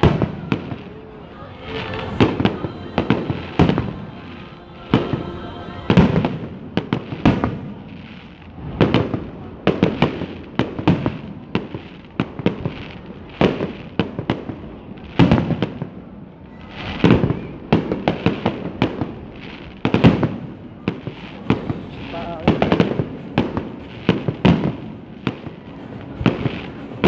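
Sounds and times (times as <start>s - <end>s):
fireworks bangs and crackling pops: 0.0s - 5.2s, 5.9s - 27.0s.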